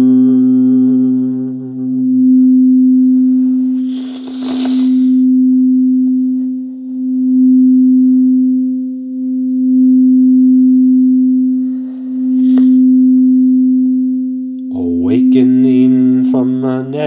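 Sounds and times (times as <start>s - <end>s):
singing bowl low tone: 0.0s - 17.0s.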